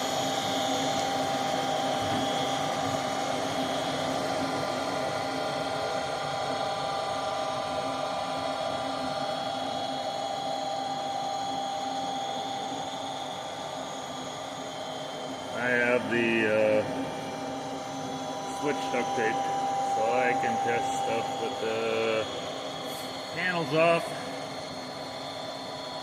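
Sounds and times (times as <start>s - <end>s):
furnace fan motor whining: 0.0s - 26.0s.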